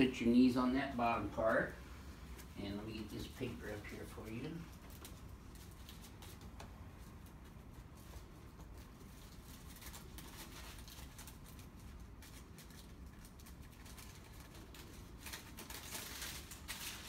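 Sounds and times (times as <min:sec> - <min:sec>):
paper rustling and crinkling: 0:00.9 - 0:17.0.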